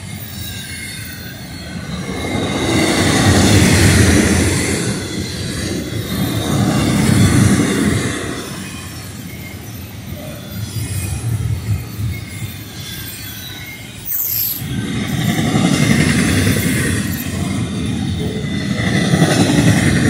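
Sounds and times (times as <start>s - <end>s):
freight train rumbling on rails: 0.0s - 20.0s
wheel squealing: 0.0s - 20.0s.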